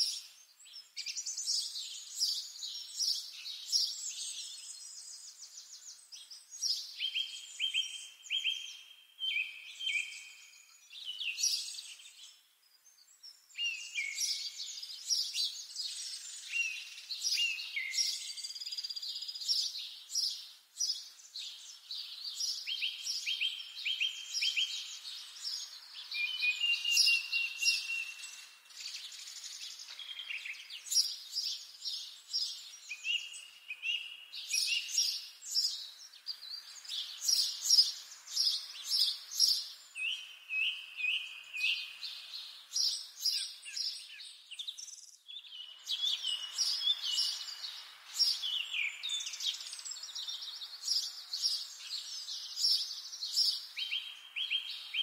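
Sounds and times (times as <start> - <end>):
faint steady hiss: 0.0 - 55.0
songbirds chirping and trilling: 0.0 - 55.0.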